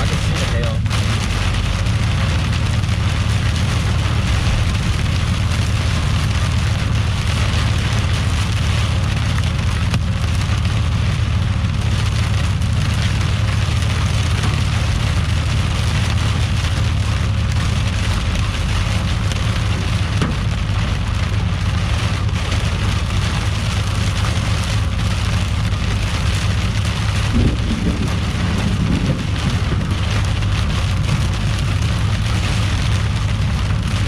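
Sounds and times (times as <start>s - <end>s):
rain and hail pattering on truck: 0.0s - 34.0s
steady low rumble: 0.0s - 34.0s.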